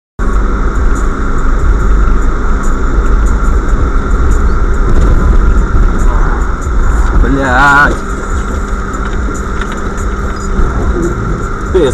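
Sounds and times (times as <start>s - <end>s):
car engine and tyre rumble: 0.2s - 11.9s.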